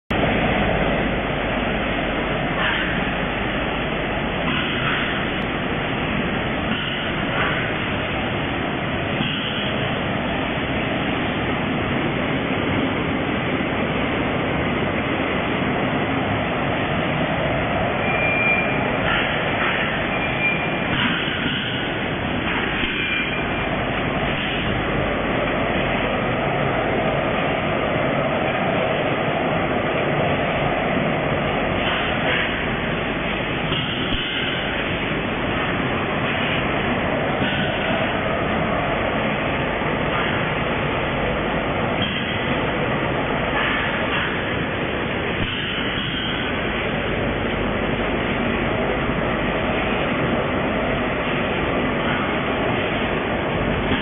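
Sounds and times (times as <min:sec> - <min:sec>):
packing machines running: 0:00.1 - 0:54.0.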